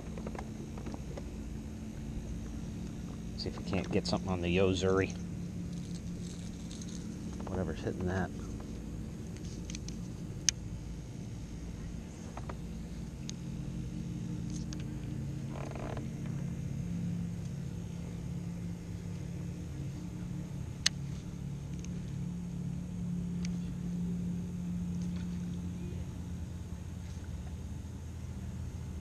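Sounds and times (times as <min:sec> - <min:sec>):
boat motor droning: 0:00.0 - 0:29.0.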